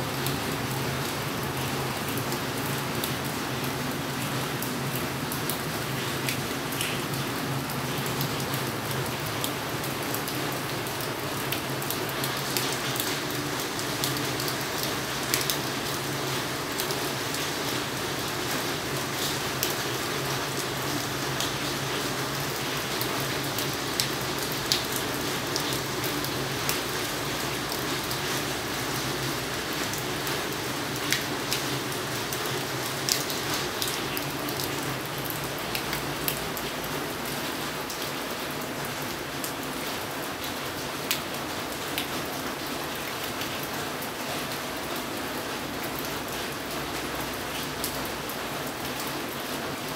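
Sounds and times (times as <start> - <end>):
steady rain on concrete: 0.0 - 49.9.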